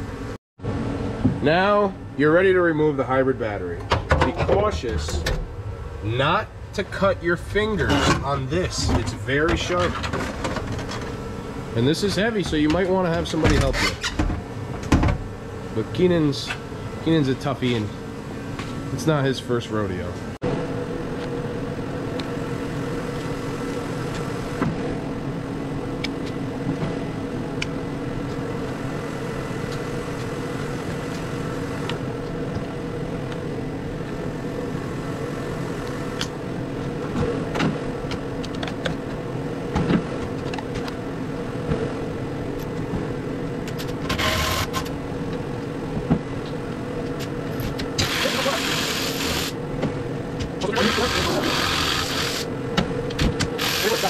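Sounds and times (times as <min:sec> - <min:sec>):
steady droning hum: 0:00.0 - 0:54.0.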